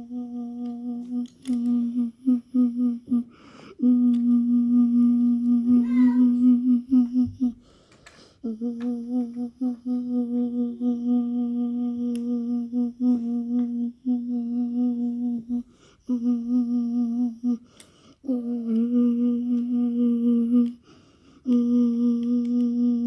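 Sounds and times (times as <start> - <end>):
person humming a low note: 0.0 - 7.7, 8.4 - 20.8, 21.4 - 23.0.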